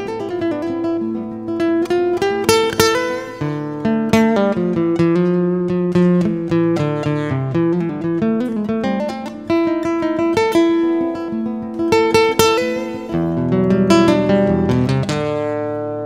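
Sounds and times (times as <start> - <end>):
guitar plucked notes and chords: 0.0 - 16.0.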